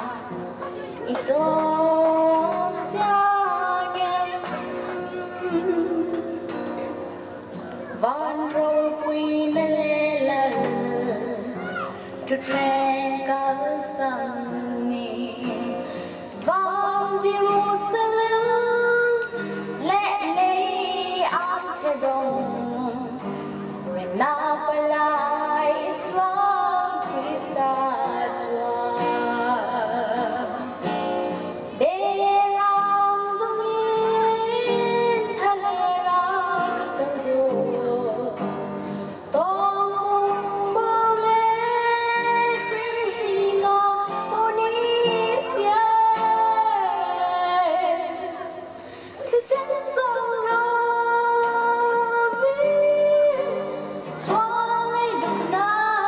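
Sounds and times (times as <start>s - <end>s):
woman singing: 0.0s - 6.8s, 7.9s - 56.0s
acoustic guitar: 0.0s - 56.0s.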